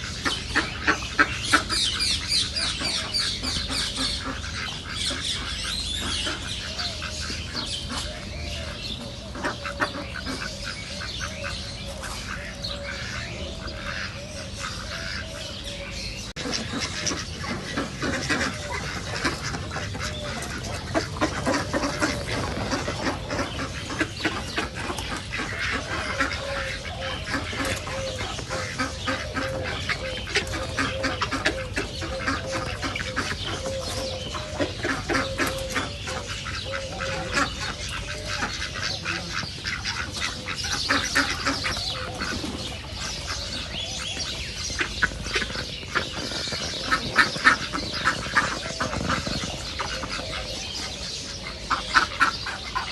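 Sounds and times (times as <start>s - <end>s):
ducks quacking: 0.0s - 52.9s.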